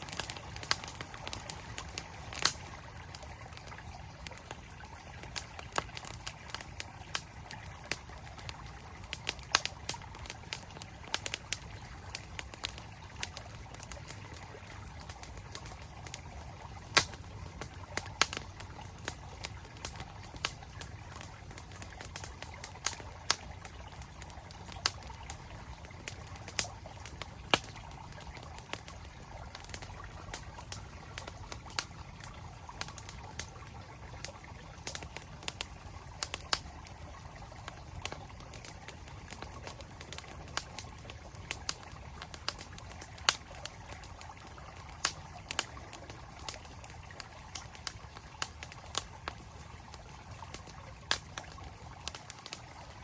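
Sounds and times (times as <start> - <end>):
campfire crackling and popping: 0.0 - 53.0
flowing stream: 0.0 - 53.0.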